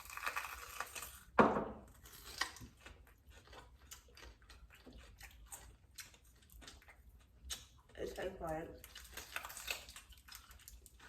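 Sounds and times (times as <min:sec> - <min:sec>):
faint crackling chewing: 0:00.0 - 0:11.0.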